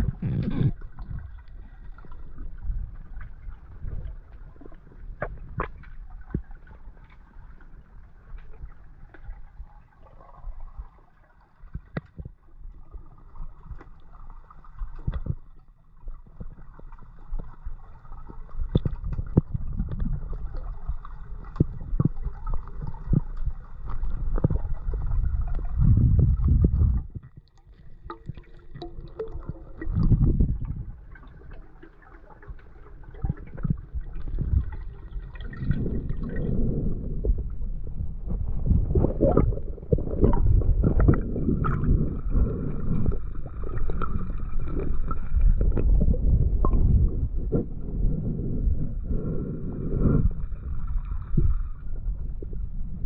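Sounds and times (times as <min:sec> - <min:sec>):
water gurgling and sloshing: 0:00.0 - 0:53.0.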